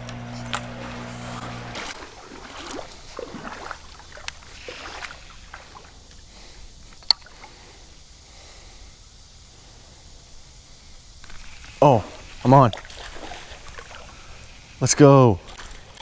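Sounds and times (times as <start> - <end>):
creek water running: 0.0 - 8.3, 10.0 - 16.0.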